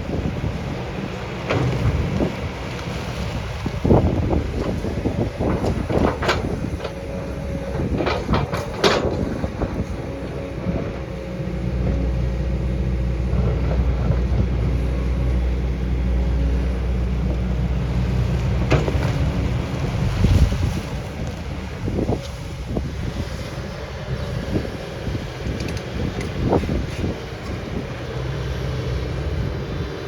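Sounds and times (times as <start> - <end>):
excavator diesel engine: 0.0 - 30.0.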